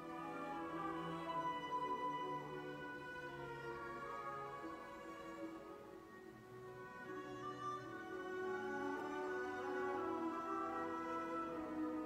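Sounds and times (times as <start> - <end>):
slow soft instrumental music: 0.0 - 12.0.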